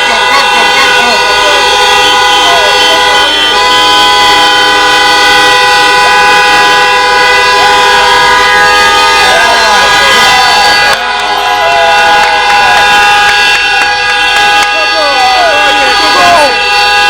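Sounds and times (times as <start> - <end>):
many horns holding tones: 0.0 - 17.0
people shouting: 0.0 - 17.0.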